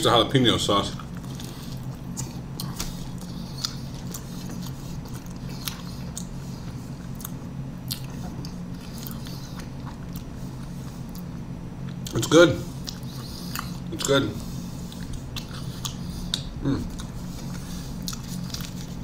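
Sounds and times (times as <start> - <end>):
steady low hum: 0.0 - 19.0
person chewing: 1.0 - 19.0.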